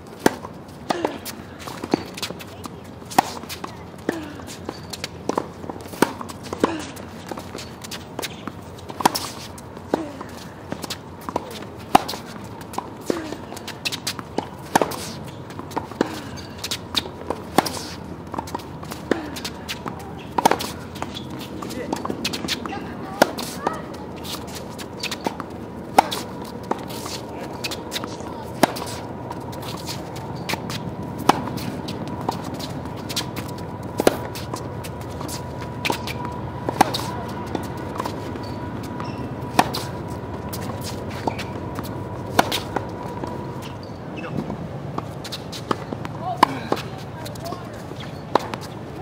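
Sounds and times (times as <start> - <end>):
tennis balls bouncing on hard court: 0.0 - 49.0
tennis balls popping off rackets: 0.0 - 49.0.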